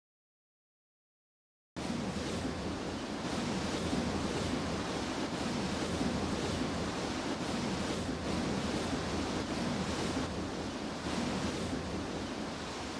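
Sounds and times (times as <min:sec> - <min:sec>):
rushing wind: 0:01.8 - 0:12.9.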